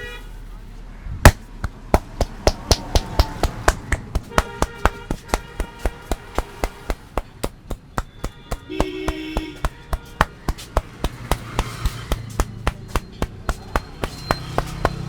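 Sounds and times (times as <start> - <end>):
hands slapping head: 1.3 - 15.0.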